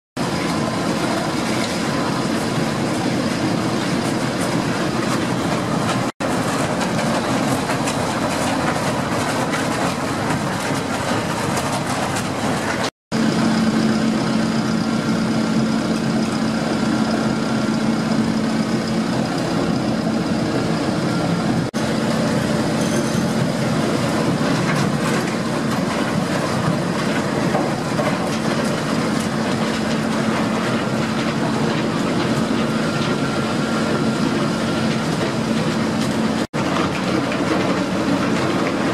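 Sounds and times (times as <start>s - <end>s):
heavy industrial machinery running: 0.2s - 38.9s.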